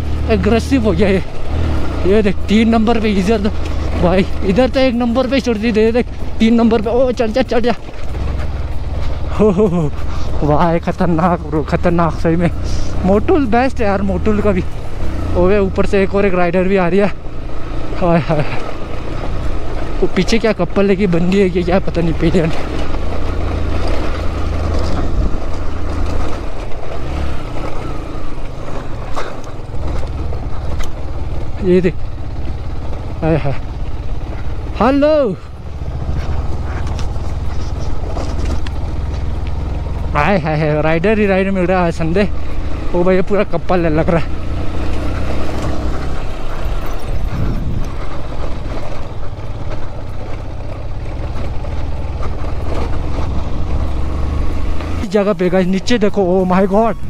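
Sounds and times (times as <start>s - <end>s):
motorcycle engine running: 0.0s - 57.0s
tyre noise on gravel: 0.0s - 57.0s.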